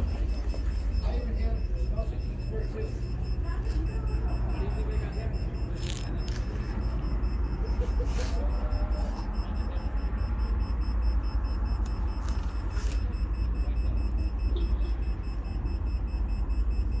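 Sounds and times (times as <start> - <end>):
rapid high-pitched beeping: 0.0 - 17.0.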